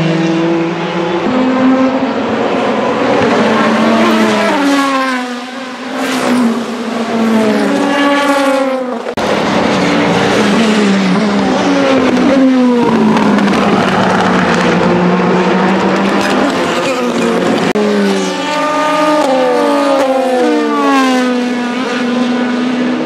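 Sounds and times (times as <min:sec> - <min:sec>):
racing car engines at high revs: 0:00.0 - 0:23.0
car engine changing gears: 0:00.3 - 0:22.5.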